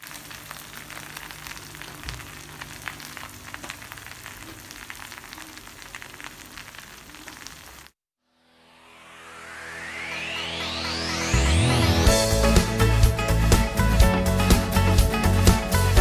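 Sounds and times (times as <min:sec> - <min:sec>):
chicken sizzling: 0:00.0 - 0:08.0, 0:11.0 - 0:16.0.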